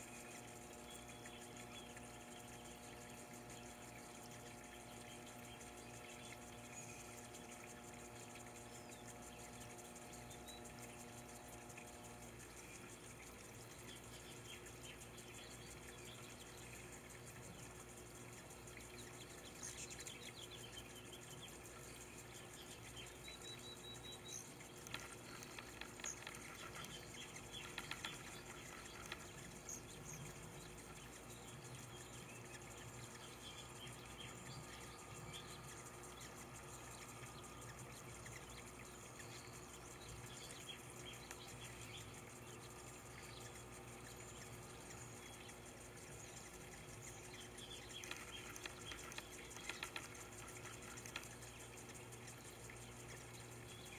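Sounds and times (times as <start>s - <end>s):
water trickling into basin: 0.0s - 53.9s.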